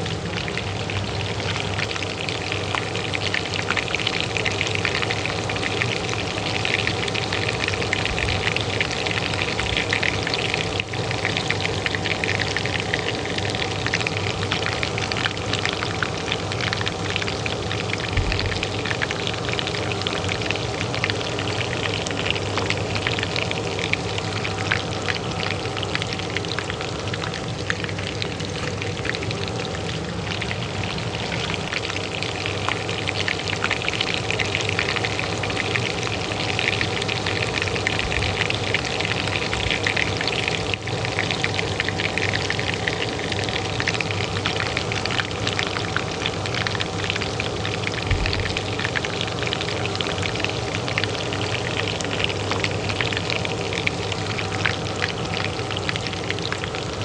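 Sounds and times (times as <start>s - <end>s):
oil crackling in a pan: 0.0s - 57.0s
range hood fan humming: 0.0s - 57.0s.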